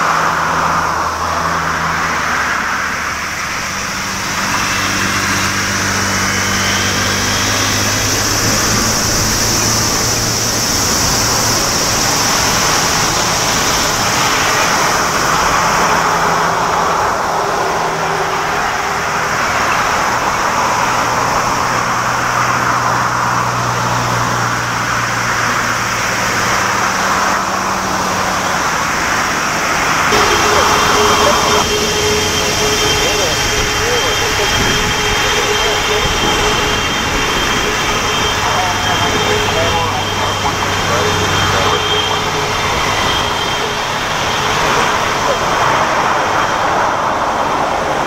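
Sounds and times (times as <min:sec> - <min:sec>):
jet engines taxiing: 0:00.0 - 0:48.0.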